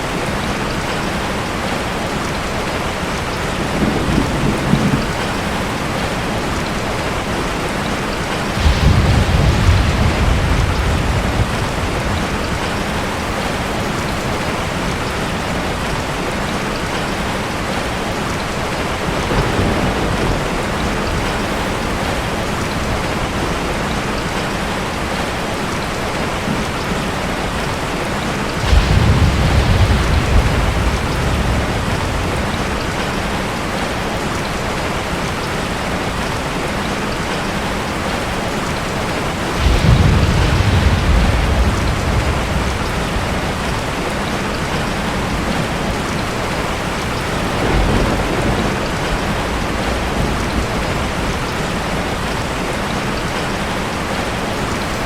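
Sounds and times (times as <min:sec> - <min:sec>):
steady rain falling: 0:00.0 - 0:55.0
thunder rumbling: 0:02.9 - 0:17.7, 0:18.4 - 0:25.5, 0:26.3 - 0:34.6, 0:37.8 - 0:55.0.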